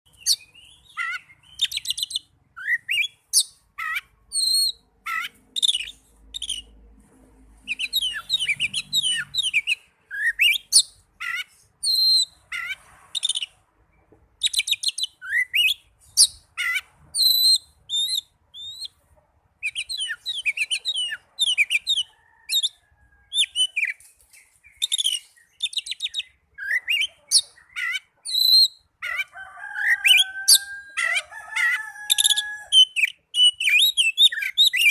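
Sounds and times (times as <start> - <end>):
bird singing chirps and trills: 0.1 - 6.8, 7.6 - 19.0, 19.6 - 29.3, 29.9 - 34.9.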